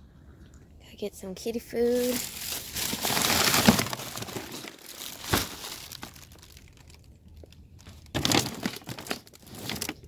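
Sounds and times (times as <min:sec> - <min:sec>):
plastic bag crinkling: 0:01.9 - 0:10.0.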